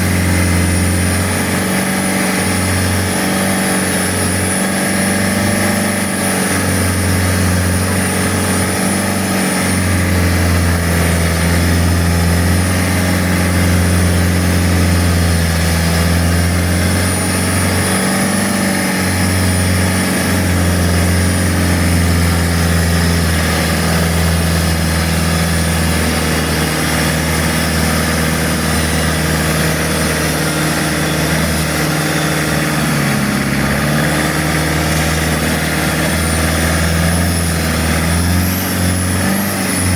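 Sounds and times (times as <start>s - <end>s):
boat engine running: 0.0s - 39.9s
steady rushing noise: 0.0s - 39.9s.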